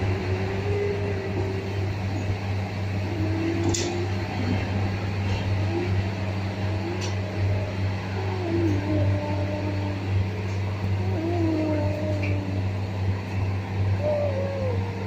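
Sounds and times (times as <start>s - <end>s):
train hum inside carriage: 0.0s - 15.0s.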